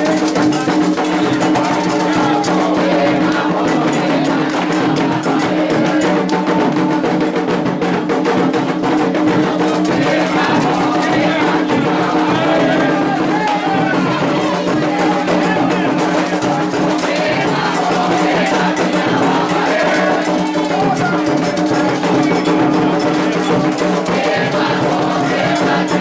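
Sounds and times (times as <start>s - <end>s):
drums and percussion: 0.0s - 26.0s
people singing: 0.0s - 26.0s.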